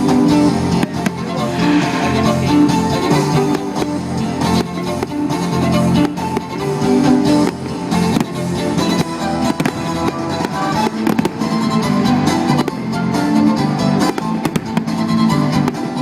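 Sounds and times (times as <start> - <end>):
music: 0.0 - 16.0
fireworks bangs and crackles: 0.2 - 13.3, 13.9 - 16.0.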